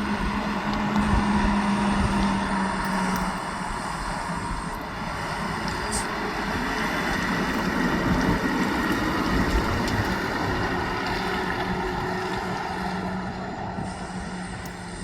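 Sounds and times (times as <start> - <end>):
road and wind noise: 0.0 - 15.0
truck diesel engine passing: 0.0 - 15.0.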